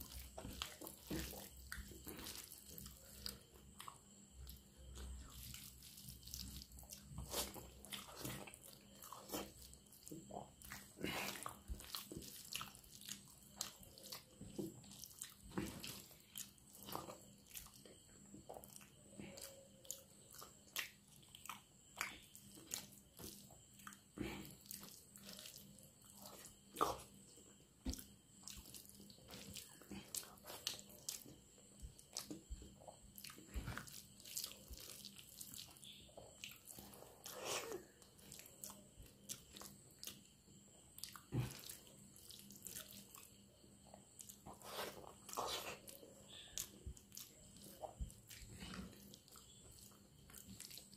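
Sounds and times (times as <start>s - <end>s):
chewing and wet mouth sounds: 0.0s - 50.9s
hand mixing wet rice: 0.0s - 50.9s.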